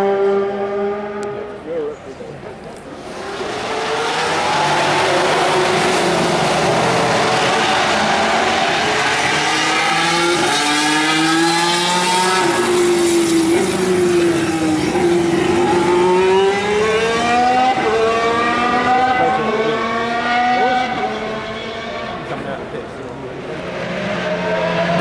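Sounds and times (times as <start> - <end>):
racing car engine shifting gears: 3.0 - 25.0.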